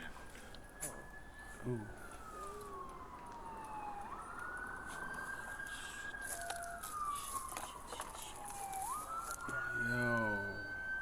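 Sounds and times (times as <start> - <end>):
police siren wailing: 0.0 - 11.0.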